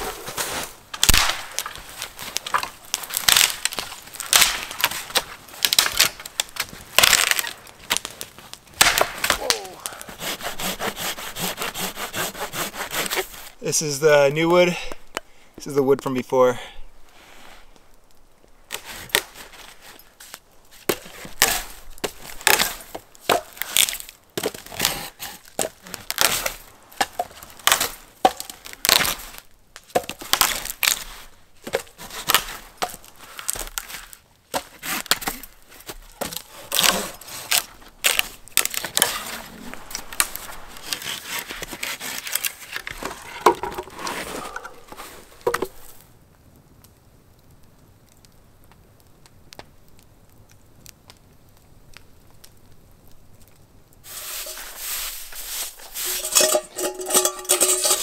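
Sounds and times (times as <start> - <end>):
firewood cracking and knocking: 0.0 - 13.6, 14.8 - 16.1, 17.7 - 46.2, 48.1 - 58.0.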